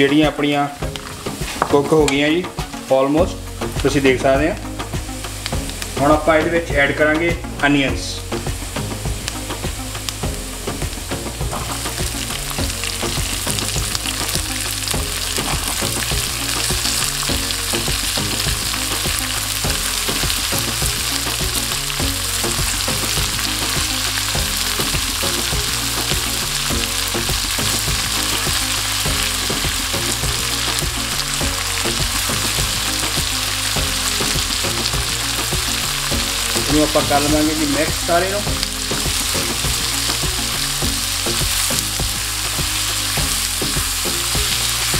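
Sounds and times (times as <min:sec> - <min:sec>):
onions sizzling in oil: 0:00.0 - 0:44.9.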